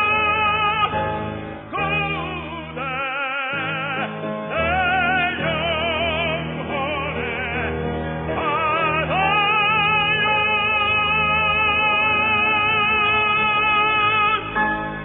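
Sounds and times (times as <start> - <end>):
musical accompaniment: 0.0 - 15.0
tenor singing operatically: 0.0 - 15.0.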